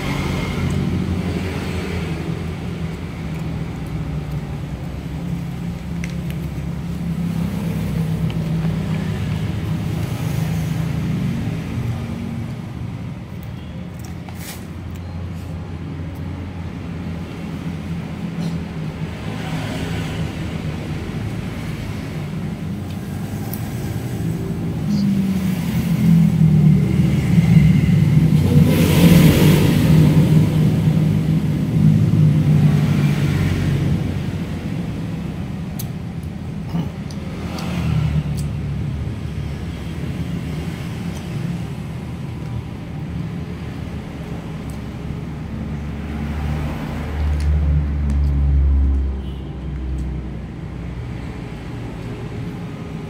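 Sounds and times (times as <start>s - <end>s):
vehicle engine rumble: 0.0s - 53.0s.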